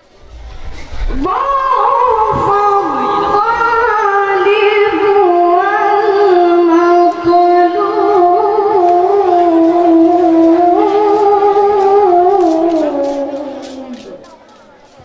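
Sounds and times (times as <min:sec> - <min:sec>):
boy chanting recitation: 0:01.3 - 0:15.0.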